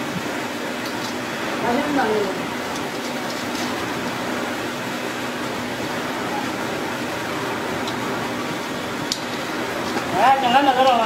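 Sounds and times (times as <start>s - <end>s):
machinery or fan hum and hiss: 0.0s - 11.0s.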